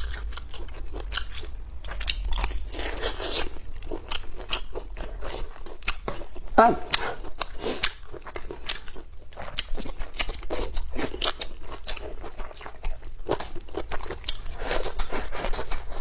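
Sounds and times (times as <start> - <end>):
chewing and crunching food: 0.0 - 16.0.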